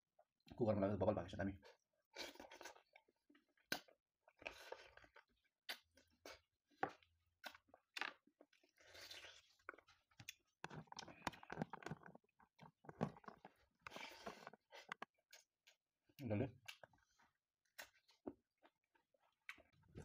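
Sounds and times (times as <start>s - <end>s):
close chewing with mouth clicks: 2.1s - 20.0s.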